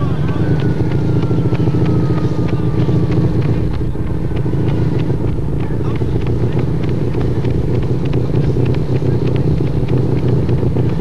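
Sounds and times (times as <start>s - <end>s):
engines droning: 0.0s - 11.0s.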